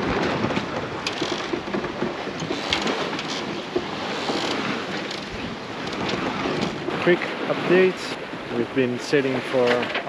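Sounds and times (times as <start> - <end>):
sea rushing: 0.0 - 10.0
wind: 0.0 - 10.0.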